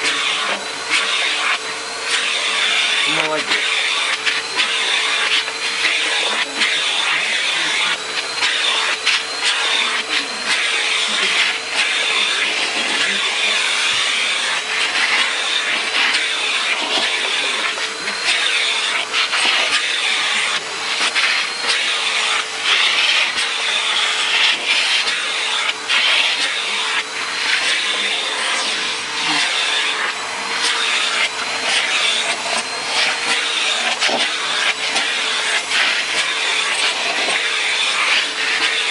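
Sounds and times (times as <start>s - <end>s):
nozzle scraping over fur: 0.0s - 38.9s
vacuum cleaner running: 0.0s - 38.9s.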